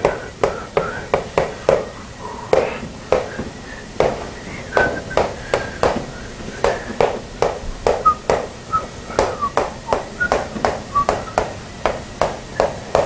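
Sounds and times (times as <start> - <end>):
chalk tapping on board: 0.0 - 8.5, 9.1 - 13.0.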